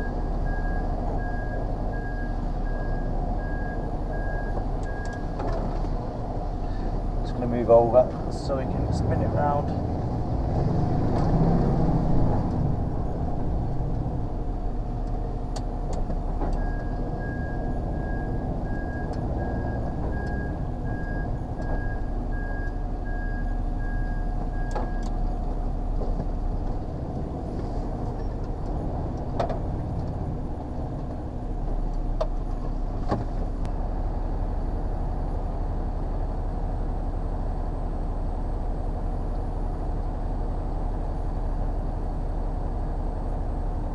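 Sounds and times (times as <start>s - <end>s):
lorry diesel engine running: 0.0s - 43.9s.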